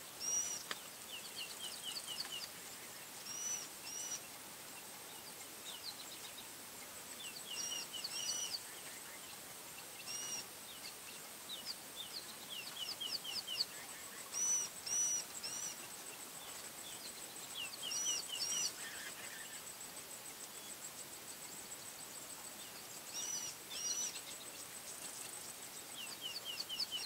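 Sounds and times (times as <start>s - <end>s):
wild birds singing: 0.0s - 27.0s.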